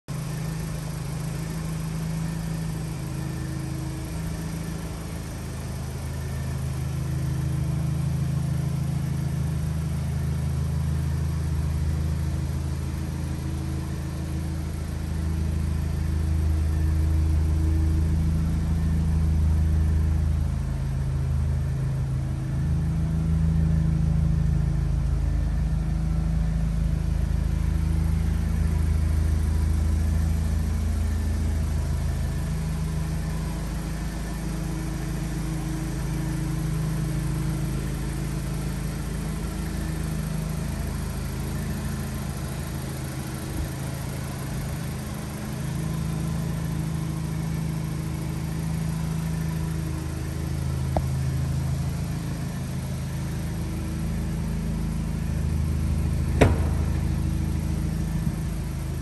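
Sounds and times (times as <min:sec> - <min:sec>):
car engine idling: 0:00.1 - 0:59.0.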